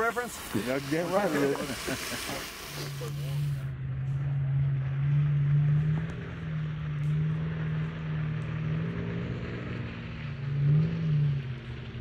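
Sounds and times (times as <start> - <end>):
suv engines droning under load: 0.0 - 12.0.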